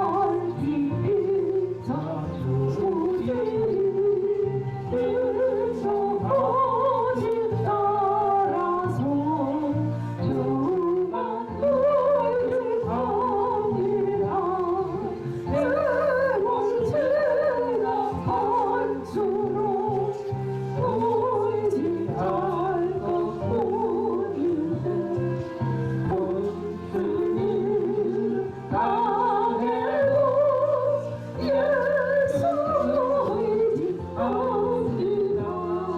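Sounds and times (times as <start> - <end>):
woman singing with vibrato: 0.0 - 35.9.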